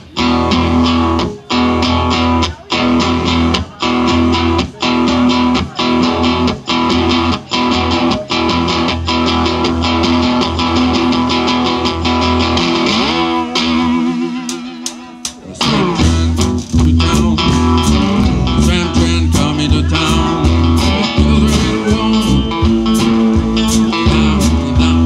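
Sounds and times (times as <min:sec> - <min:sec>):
live blues band playing: 0:00.0 - 0:25.0.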